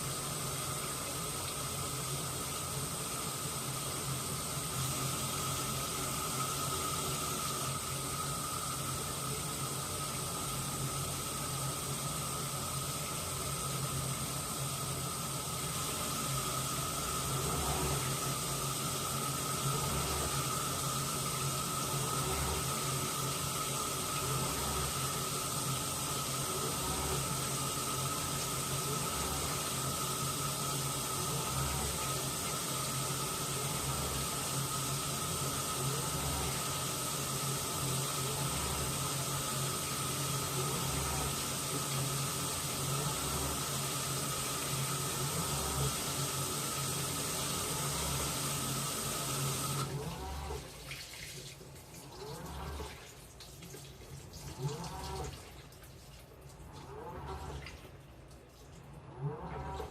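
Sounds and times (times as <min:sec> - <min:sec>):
motor hum: 0:00.0 - 0:50.8, 0:52.1 - 0:53.0, 0:54.4 - 0:55.5, 0:56.6 - 0:58.0, 0:59.0 - 0:59.9
water swishing in washing machine: 0:00.0 - 0:59.9.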